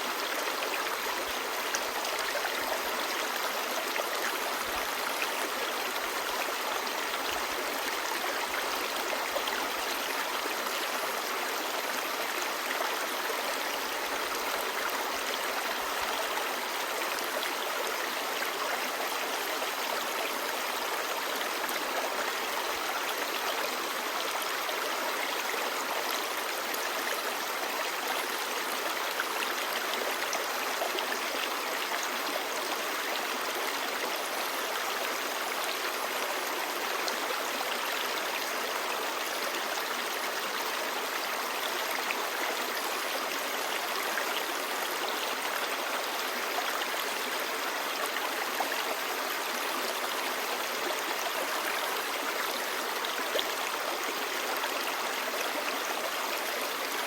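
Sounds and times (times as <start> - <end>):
stream babbling: 0.0 - 57.0.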